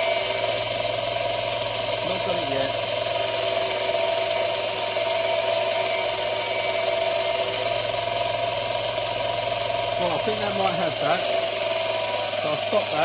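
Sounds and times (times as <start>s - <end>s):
bench grinder motor hum: 0.0s - 13.0s
metal grinding hiss: 0.0s - 13.0s.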